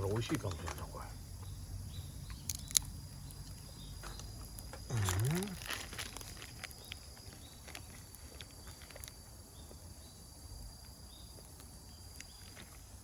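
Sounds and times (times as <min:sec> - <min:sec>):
high insect trill: 0:00.0 - 0:13.0
campfire crackling: 0:02.2 - 0:13.0.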